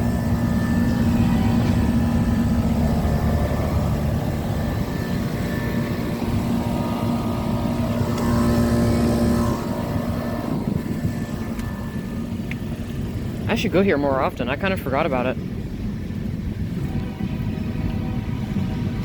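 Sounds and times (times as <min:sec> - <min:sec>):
compressor hum: 0:00.0 - 0:19.0
condenser fan rumble: 0:00.0 - 0:19.0.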